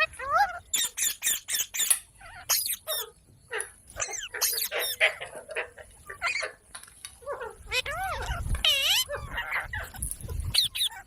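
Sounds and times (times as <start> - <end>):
parrot shrill calls and chatter: 0.0 - 6.6, 7.3 - 11.0.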